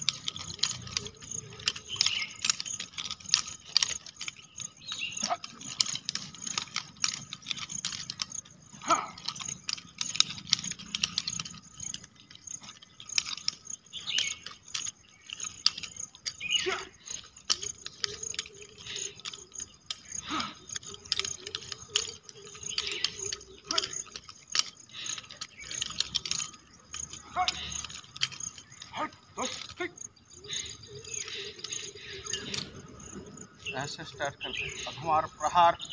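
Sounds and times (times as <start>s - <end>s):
nunchaku chain rattling: 0.0s - 35.9s
sticks clicking and clacking: 0.0s - 35.9s.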